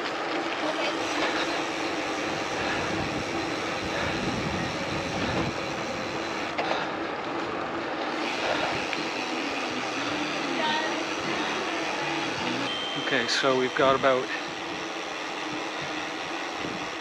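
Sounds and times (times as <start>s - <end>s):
bike tyres on gravel rattling: 0.0s - 12.3s, 13.0s - 17.0s.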